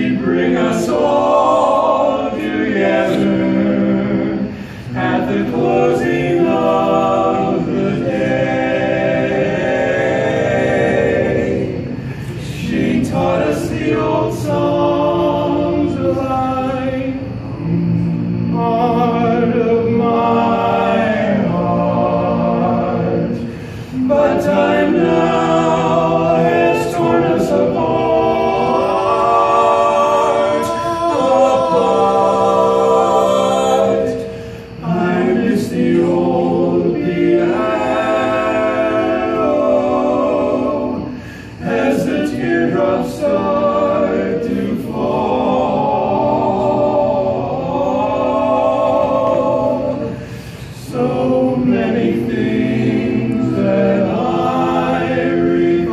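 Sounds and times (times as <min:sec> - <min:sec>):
male quartet singing a cappella: 0:00.0 - 0:55.9.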